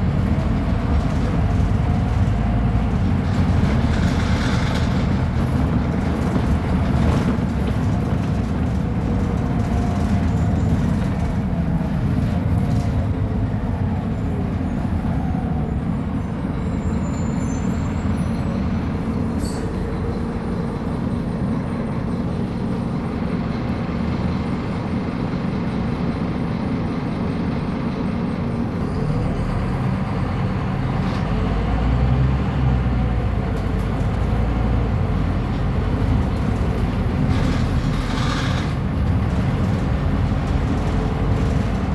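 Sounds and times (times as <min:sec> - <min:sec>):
diesel bus engine droning: 0:00.0 - 0:41.9.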